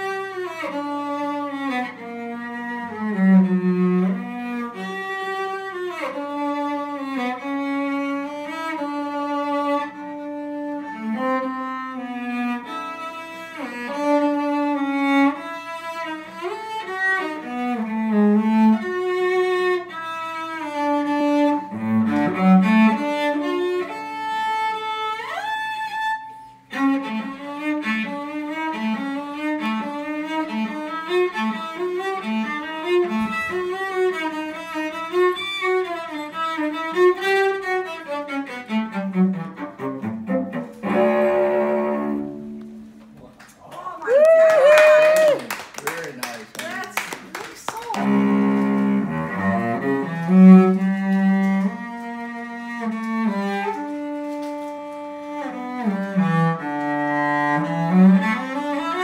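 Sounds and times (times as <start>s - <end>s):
bowed cello: 0.0s - 43.2s, 48.0s - 59.0s.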